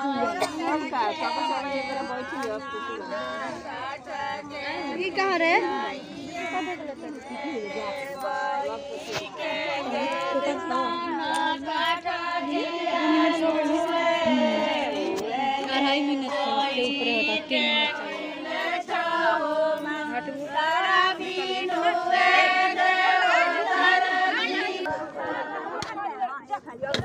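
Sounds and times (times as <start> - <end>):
women singing devotional song: 0.0 - 27.0.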